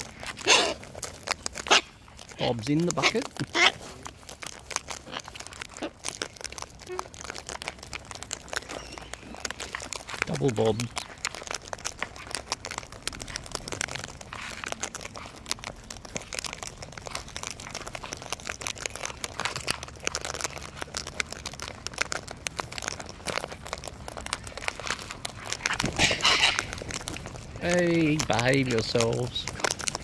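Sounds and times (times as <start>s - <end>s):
cockatoos crunching seed: 0.0s - 30.0s.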